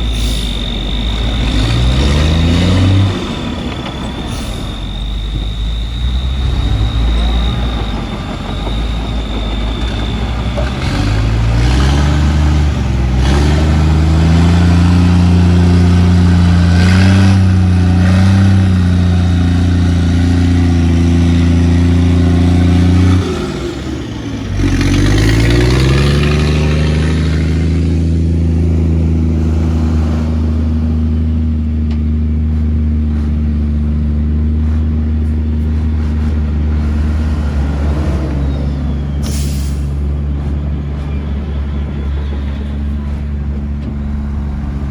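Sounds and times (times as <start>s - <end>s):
heavy diesel engine revving: 0.0s - 44.9s.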